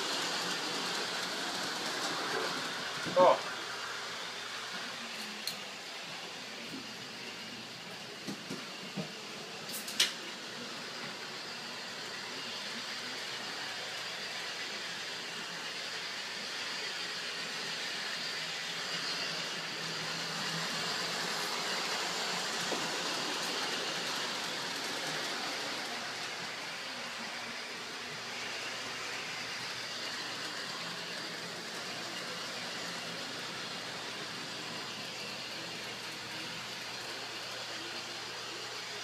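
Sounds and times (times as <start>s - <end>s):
toy train whirring on track: 0.0s - 39.0s.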